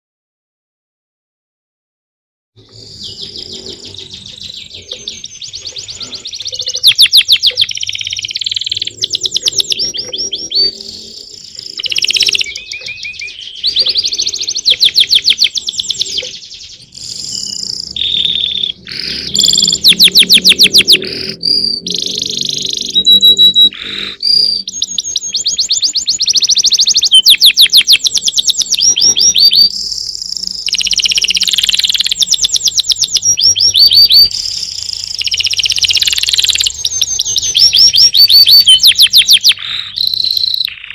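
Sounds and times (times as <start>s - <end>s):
songbirds singing: 2.6s - 40.9s.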